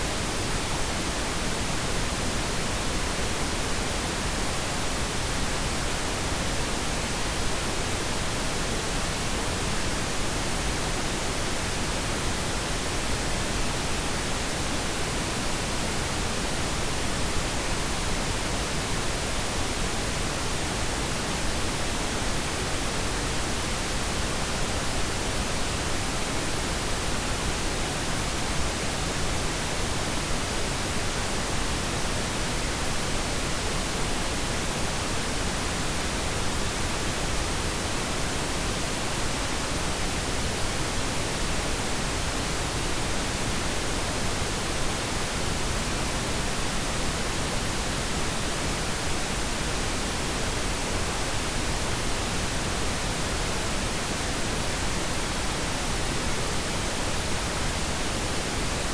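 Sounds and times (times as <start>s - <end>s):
pink noise hiss: 0.0s - 58.9s.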